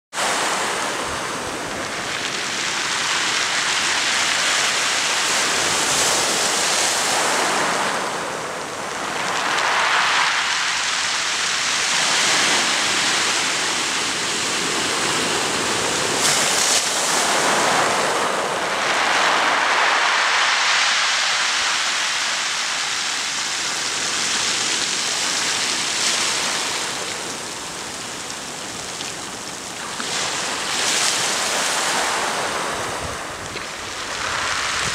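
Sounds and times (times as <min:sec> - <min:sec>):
waves washing on pebble beach: 0:00.1 - 0:34.9.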